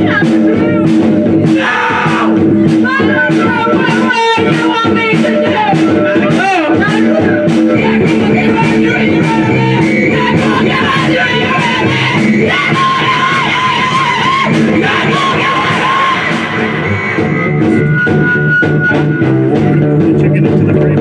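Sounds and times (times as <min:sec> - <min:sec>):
person singing and yelling: 0:00.0 - 0:17.2
drum beat: 0:00.0 - 0:21.0
live rock band playing: 0:00.0 - 0:21.0.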